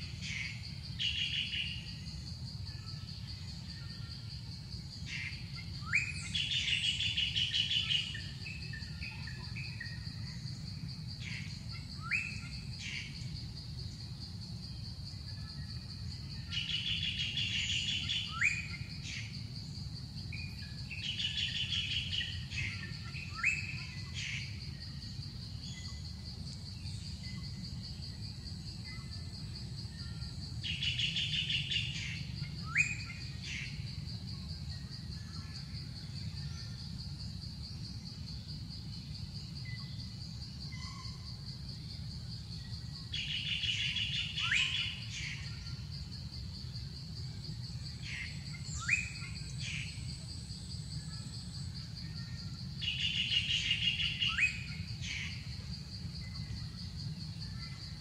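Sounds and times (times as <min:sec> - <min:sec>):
high-pitched insect drone: 0:00.0 - 0:58.0.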